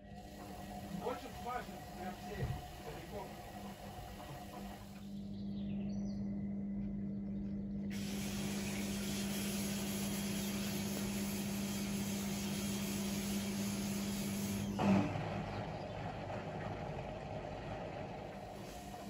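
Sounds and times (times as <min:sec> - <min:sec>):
drain pump humming: 0:00.0 - 0:19.0.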